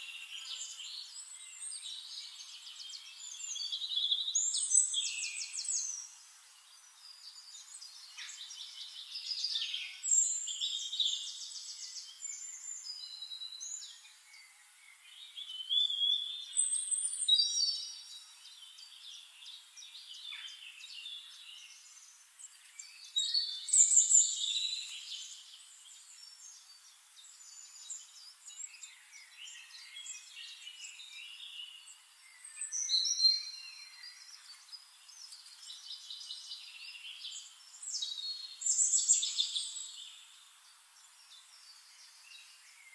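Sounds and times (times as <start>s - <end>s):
birds chirping and singing: 0.0s - 42.9s.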